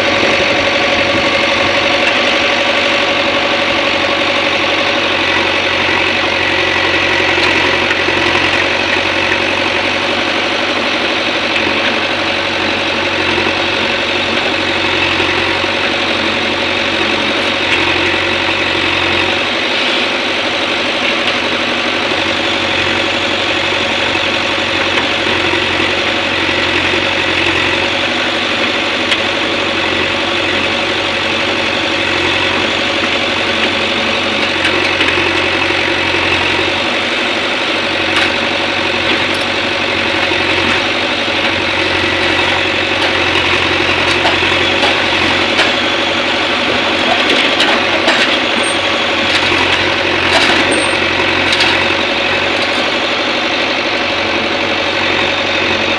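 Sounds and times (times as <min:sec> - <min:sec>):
diesel engine running steadily: 0:00.0 - 0:55.9.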